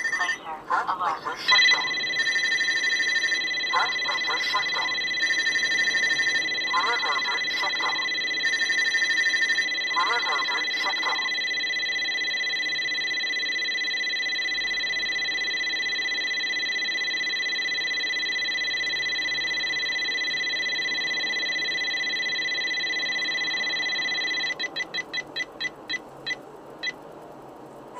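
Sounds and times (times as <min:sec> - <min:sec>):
detector alert tone and beeps: 0:00.0 - 0:00.4, 0:01.4 - 0:27.0.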